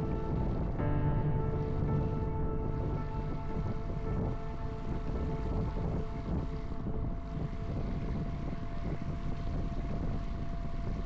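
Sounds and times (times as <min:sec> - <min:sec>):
boat motor rumbling: 0:00.0 - 0:11.0
faint steady tones: 0:00.0 - 0:11.0.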